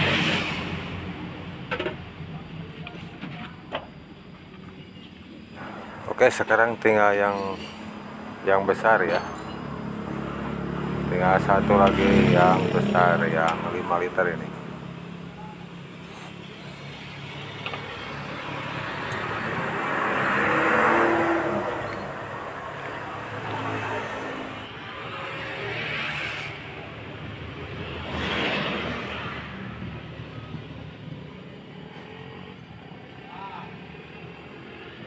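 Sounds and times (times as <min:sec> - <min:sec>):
vehicles passing by: 0:00.0 - 0:35.0.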